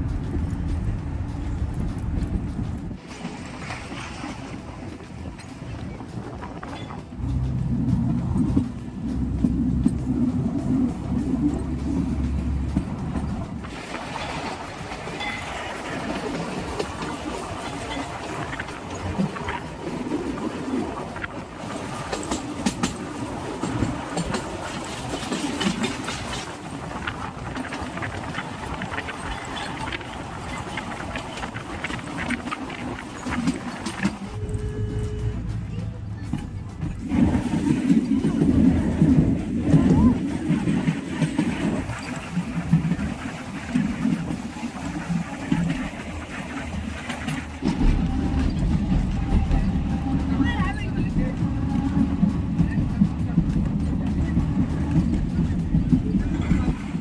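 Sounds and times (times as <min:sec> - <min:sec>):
rail car running rumble: 0:00.0 - 0:57.0
wheels clicking over track: 0:00.0 - 0:57.0.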